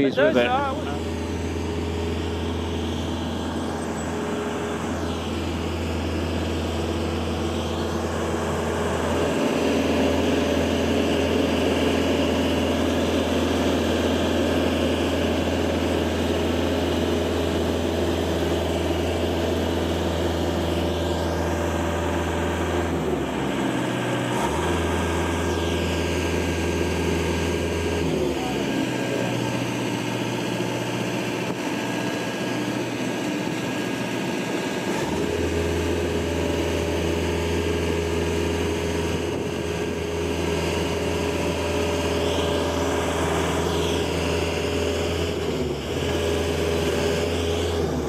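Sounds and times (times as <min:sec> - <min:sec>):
boom lift engine running: 0:00.0 - 0:48.0.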